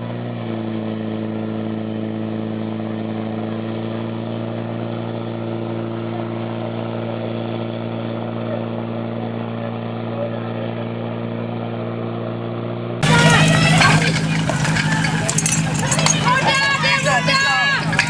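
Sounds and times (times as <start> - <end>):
fire pump engine running: 0.0 - 18.0.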